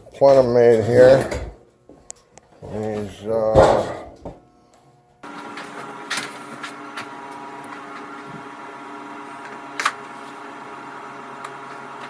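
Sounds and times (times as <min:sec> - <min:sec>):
machine hum with fixed tones: 0:00.0 - 0:12.0.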